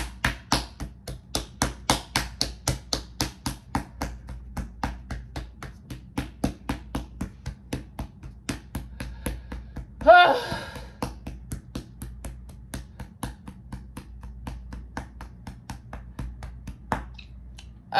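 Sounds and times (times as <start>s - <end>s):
rapid light tapping: 0.0s - 17.8s.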